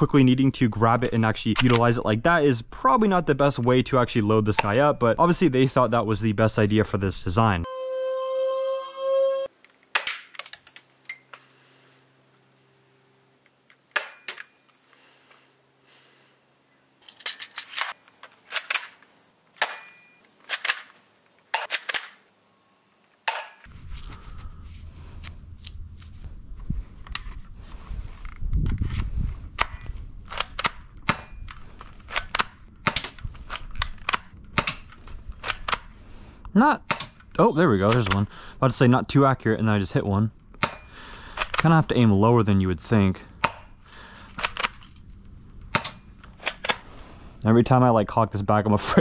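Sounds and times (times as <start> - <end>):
outdoor background noise: 0.0 - 7.7, 9.5 - 49.0.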